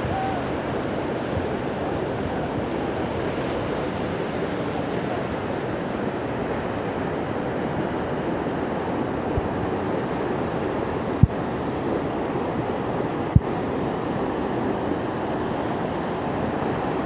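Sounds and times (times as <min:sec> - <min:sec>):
flooded river rushing: 0:00.0 - 0:17.0.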